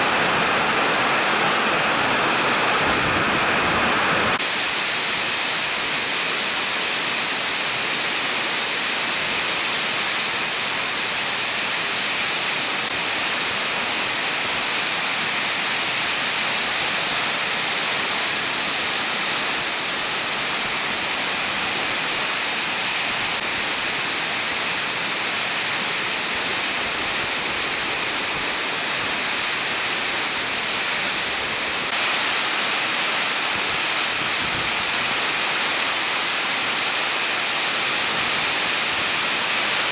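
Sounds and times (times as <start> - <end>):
heavy hail and rain falling: 0.0 - 39.9.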